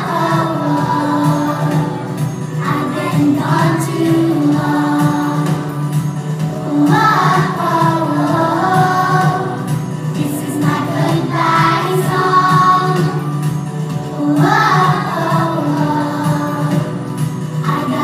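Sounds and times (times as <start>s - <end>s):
children singing in unison: 0.0s - 2.0s, 2.6s - 5.7s, 6.6s - 13.4s, 14.1s - 17.0s.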